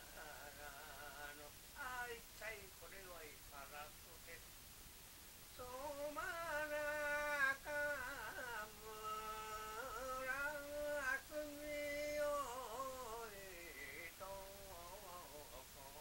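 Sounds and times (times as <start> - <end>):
elderly man singing folk song: 0.0 - 4.4, 5.5 - 16.0.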